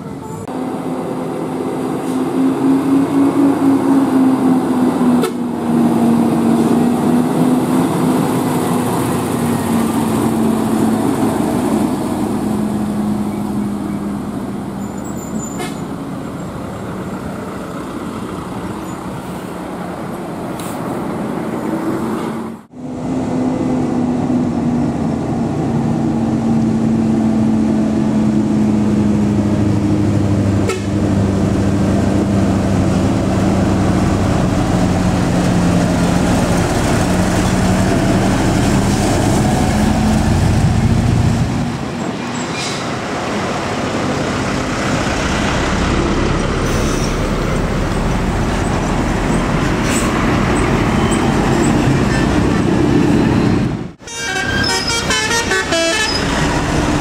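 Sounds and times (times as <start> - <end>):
truck diesel engines labouring: 0.0 - 57.0.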